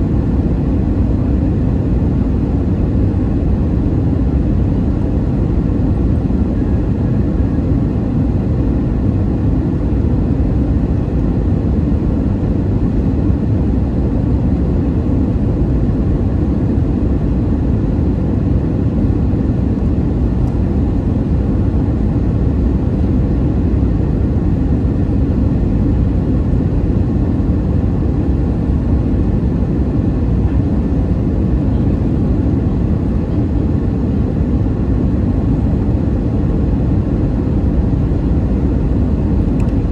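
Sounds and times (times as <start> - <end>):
airliner cabin low rumble: 0.0 - 39.9
faint steady engine tones: 0.0 - 39.9.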